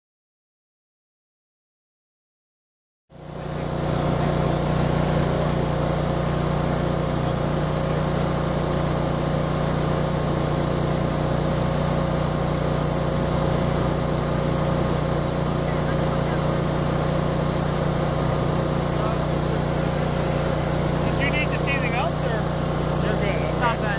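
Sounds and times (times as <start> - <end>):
construction machinery engine humming: 3.2 - 23.9.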